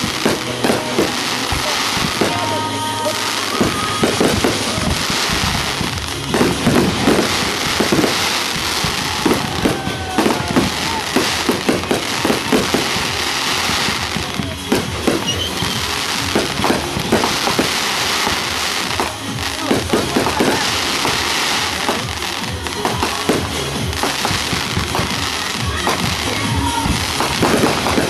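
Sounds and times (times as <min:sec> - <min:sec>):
fireworks booming: 0:00.0 - 0:28.0
fireworks crackling: 0:00.0 - 0:28.0.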